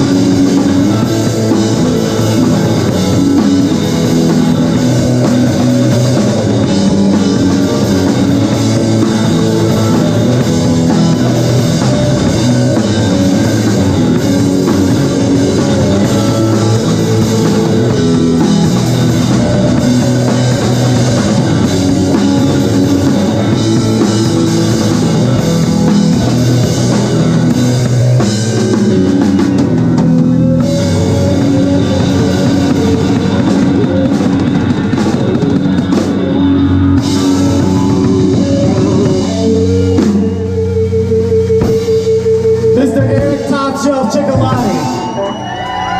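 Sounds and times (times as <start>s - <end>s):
drum kit: 0.0s - 45.9s
electric guitars: 0.0s - 45.9s
live rock band playing: 0.0s - 45.9s.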